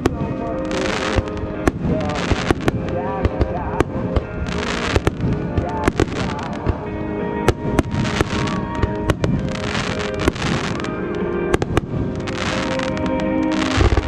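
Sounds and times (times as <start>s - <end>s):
firework crackling: 0.0s - 14.0s
music playing: 0.0s - 14.0s.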